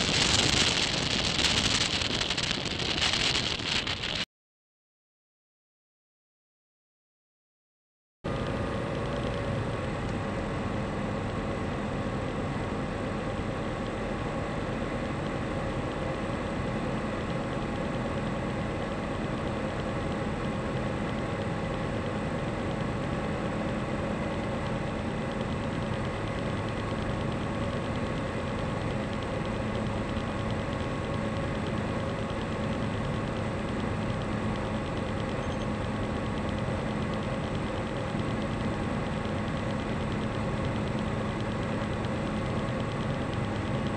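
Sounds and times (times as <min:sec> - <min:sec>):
light aircraft engine droning: 0:00.0 - 0:04.2, 0:08.3 - 0:43.9.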